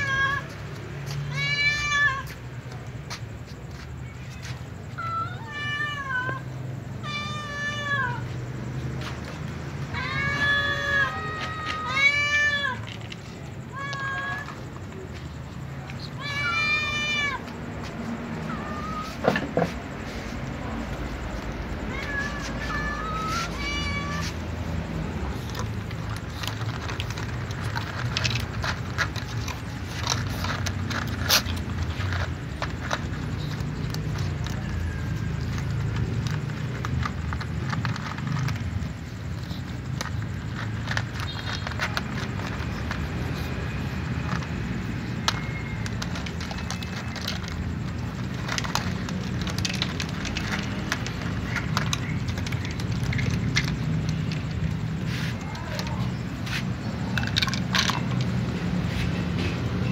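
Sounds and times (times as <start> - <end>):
cats crunching dry kibble: 0.0 - 59.9.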